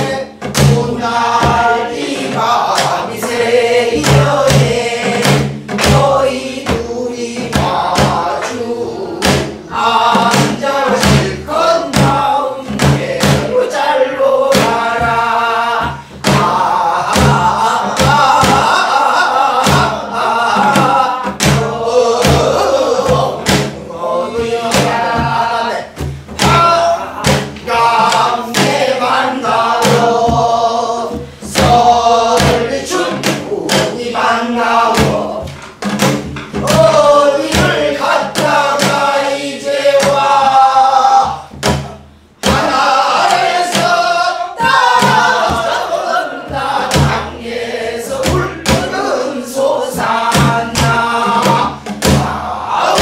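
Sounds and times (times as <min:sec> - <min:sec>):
barrel drum strokes: 0:00.0 - 0:53.0
men and women singing folk song: 0:00.0 - 0:53.0.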